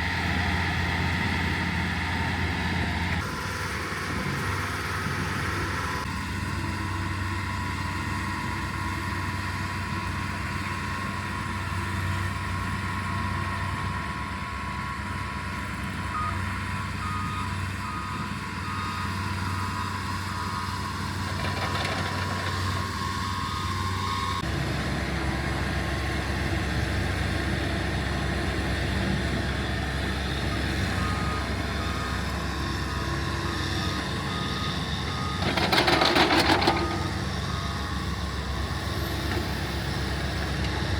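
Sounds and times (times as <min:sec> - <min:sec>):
heavy machine engine running: 0:00.0 - 0:40.9.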